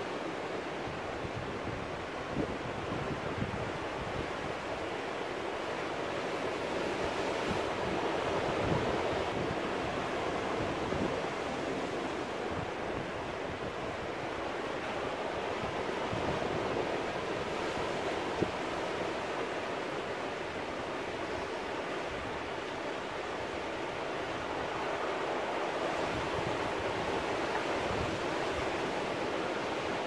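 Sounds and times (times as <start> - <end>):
surf washing over rocks: 0.0 - 30.0.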